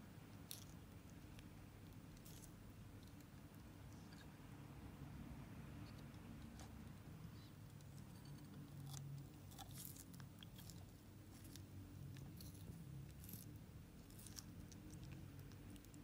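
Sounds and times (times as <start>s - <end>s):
faint low hum: 0.0s - 16.0s
tortoise crunching leafy greens: 0.3s - 4.3s, 5.8s - 16.0s.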